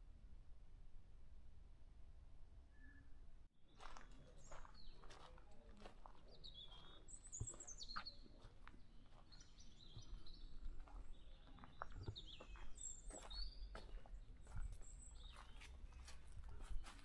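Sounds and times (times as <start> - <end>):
birds chirping and twittering: 2.7 - 17.0.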